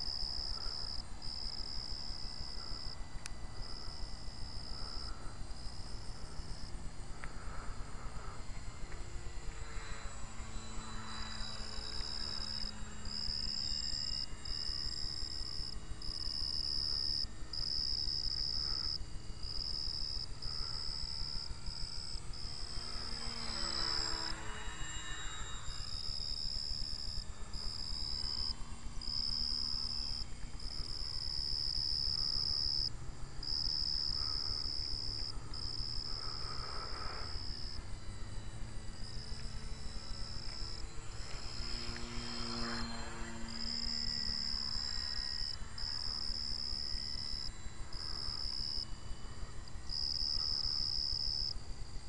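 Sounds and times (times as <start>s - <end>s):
crickets chirping: 0.0s - 52.0s
model plane motor whining: 0.0s - 52.0s.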